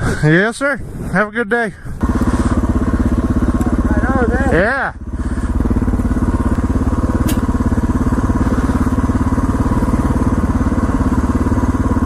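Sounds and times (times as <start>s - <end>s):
motorcycle engine idling: 1.8s - 12.0s.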